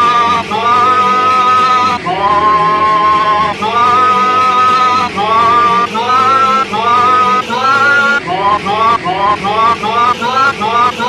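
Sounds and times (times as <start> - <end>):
man singing long notes: 0.0 - 11.0.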